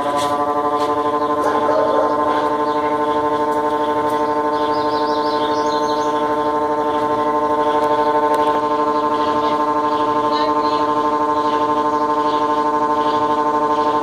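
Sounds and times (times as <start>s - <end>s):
washing machine spin whine: 0.0s - 14.0s.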